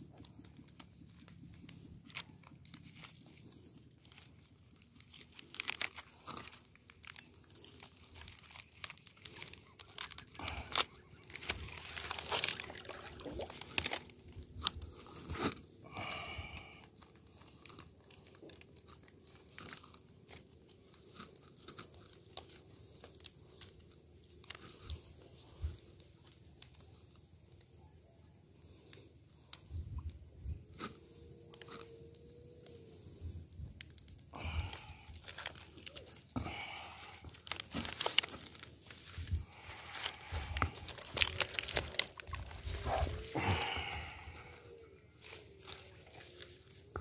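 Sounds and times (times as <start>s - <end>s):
palm leaves crackling and rustling: 0.0s - 47.0s.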